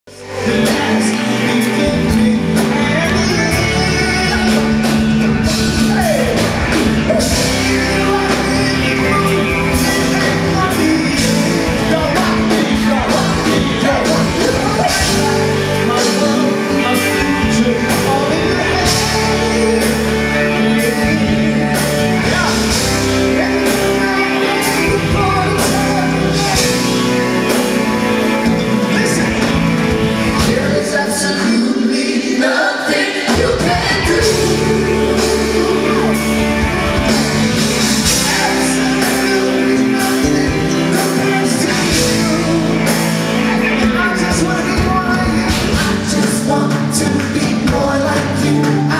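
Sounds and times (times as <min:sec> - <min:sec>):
gospel band playing: 0:00.0 - 0:48.9
lead and backing singers: 0:00.1 - 0:48.9.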